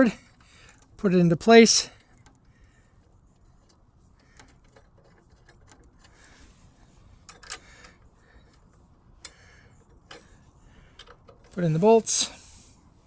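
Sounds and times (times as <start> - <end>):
metal parts clicking and tapping: 0.0 - 11.7.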